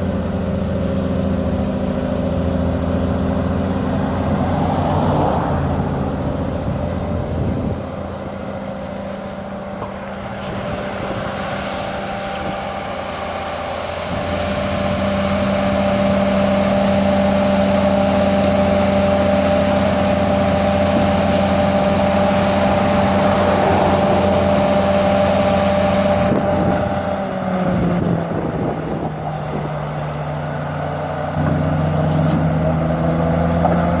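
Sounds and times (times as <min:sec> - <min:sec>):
excavator engine whining: 0:00.0 - 0:34.0.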